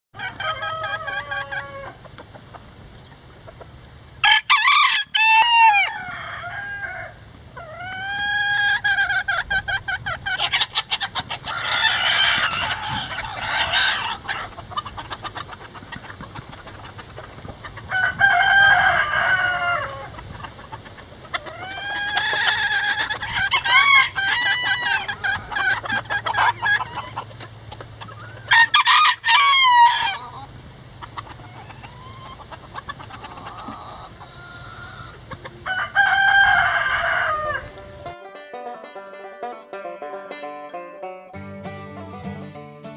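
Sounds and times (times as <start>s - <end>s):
roosters crowing: 0.2s - 3.2s, 4.1s - 38.2s
hens clucking: 0.2s - 41.2s.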